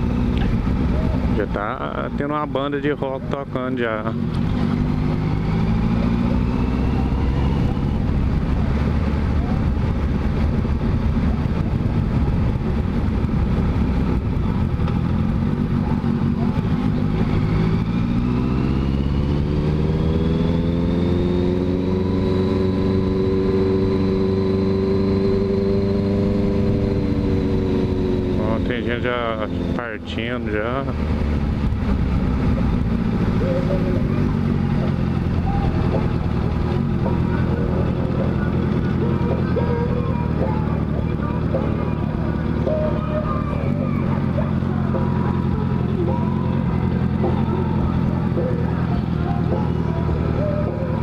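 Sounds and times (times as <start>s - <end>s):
motorcycle engine accelerating: 0.0s - 51.0s.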